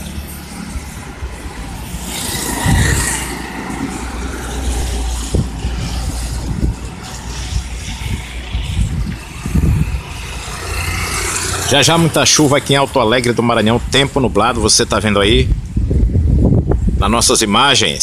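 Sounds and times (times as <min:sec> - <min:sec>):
street ambience: 0:00.0 - 0:18.0
wind rumbling on microphone: 0:00.0 - 0:18.0.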